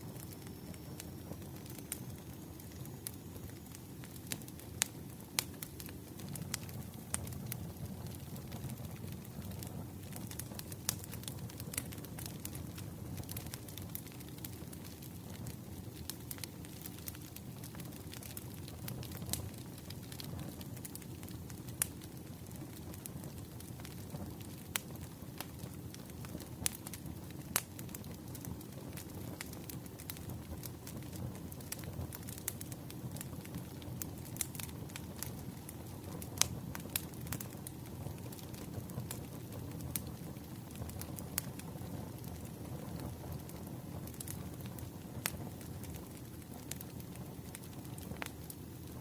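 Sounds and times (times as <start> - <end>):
fire popping and snapping: 0.0 - 49.0
wood fire rumbling: 0.0 - 49.0.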